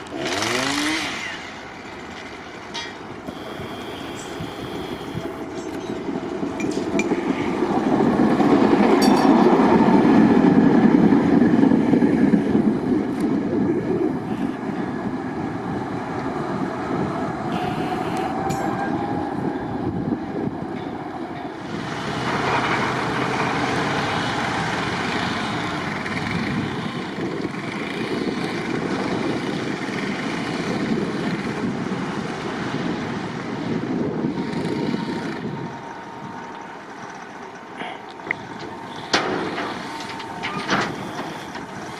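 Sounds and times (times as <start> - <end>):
tram wheels rumbling on rails: 0.0 - 41.9.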